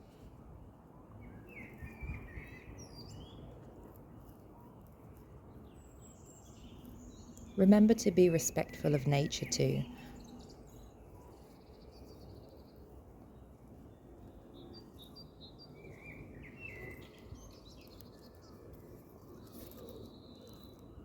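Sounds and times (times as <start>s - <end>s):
low steady background noise: 0.0s - 21.0s
small birds chirping: 1.1s - 21.0s.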